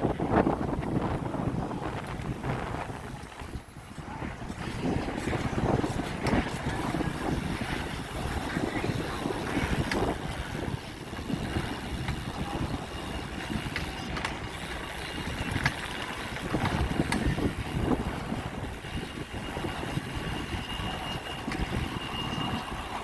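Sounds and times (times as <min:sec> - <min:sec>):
bicycle road noise: 0:00.0 - 0:23.0
wind buffeting microphone: 0:00.0 - 0:23.0.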